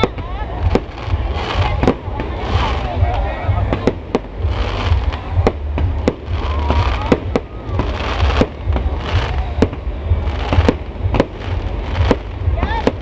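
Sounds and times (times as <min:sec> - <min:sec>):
fireworks bangs and cracks: 0:00.0 - 0:13.0
steady low rumble: 0:00.0 - 0:13.0.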